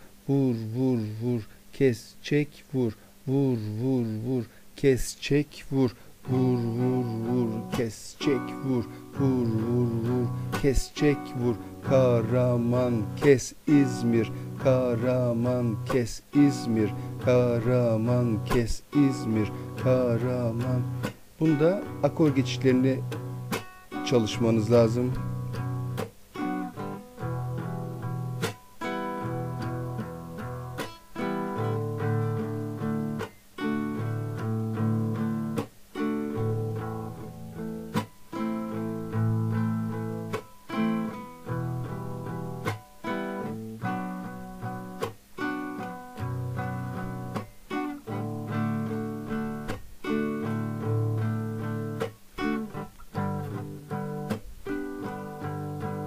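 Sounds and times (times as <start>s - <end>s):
guitar strummed with muted chops: 6.2s - 56.0s.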